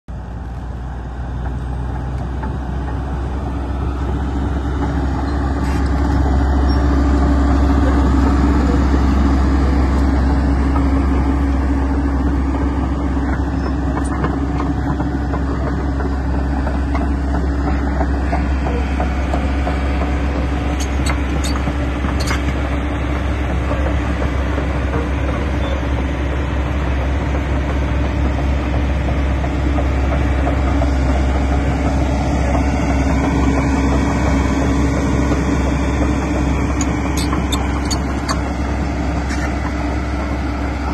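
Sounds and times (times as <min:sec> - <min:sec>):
excavator diesel engine idling: 0:00.1 - 0:40.9.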